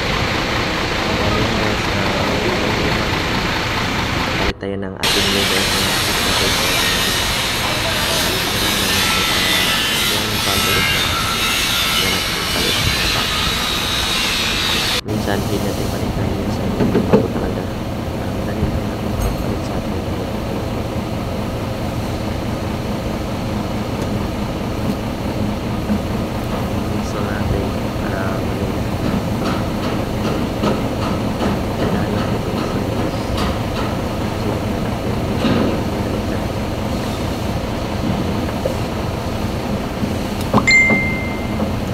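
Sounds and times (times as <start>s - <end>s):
loud machine drone with hiss: 0.0s - 41.9s
low mechanical rumble: 0.0s - 41.9s.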